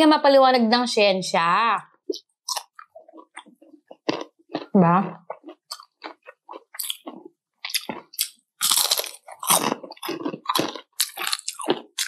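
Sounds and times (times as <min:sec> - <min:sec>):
crunchy chewing: 0:02.1 - 0:12.0.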